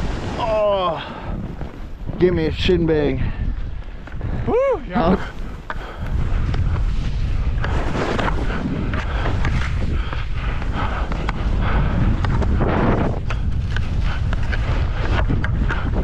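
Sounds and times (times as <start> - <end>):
skis scraping through snow: 0.0 - 16.0
wind buffeting microphone: 0.0 - 16.0.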